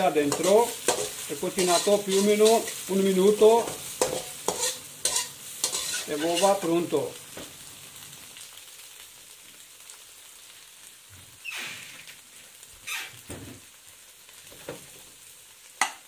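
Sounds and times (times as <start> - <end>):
eggs sizzling in oil: 0.0 - 16.0.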